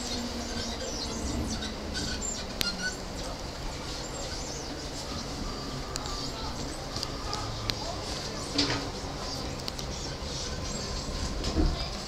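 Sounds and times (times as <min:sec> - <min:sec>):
faint high squeaks: 0:00.0 - 0:12.0
train car running hum: 0:00.0 - 0:12.0.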